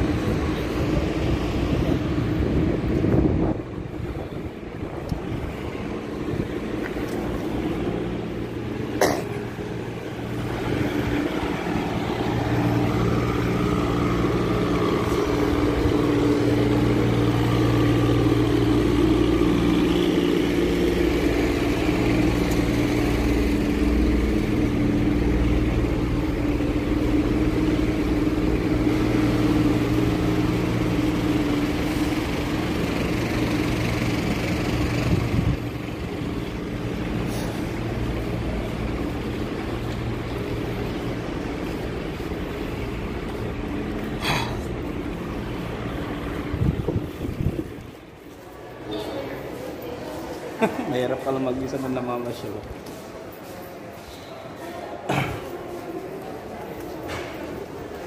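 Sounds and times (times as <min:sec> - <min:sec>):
vehicle engine idling: 0:00.0 - 0:53.7.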